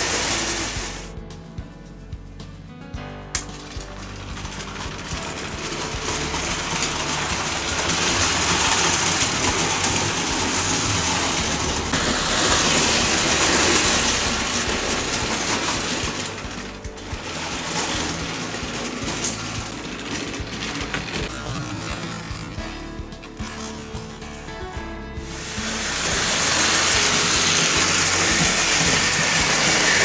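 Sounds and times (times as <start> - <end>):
model train wheels rattling on track: 0.0 - 1.1, 3.4 - 22.6, 25.3 - 30.0
background music: 0.0 - 30.0.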